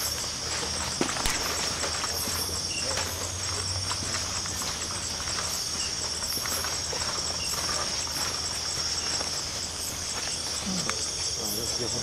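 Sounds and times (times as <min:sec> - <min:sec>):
repeating insect chirp: 0:00.0 - 0:12.0
rustling steps on forest floor: 0:00.0 - 0:12.0.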